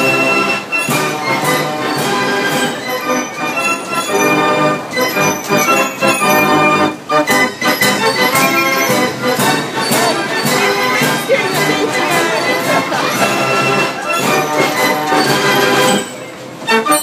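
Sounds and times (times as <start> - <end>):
fairground organ music: 0.0 - 17.0.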